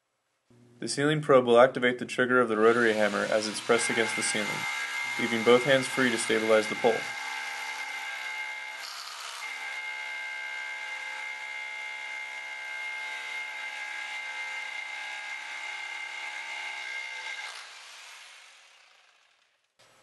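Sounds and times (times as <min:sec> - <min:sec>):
rotary hammer drilling concrete: 0:02.6 - 0:19.7.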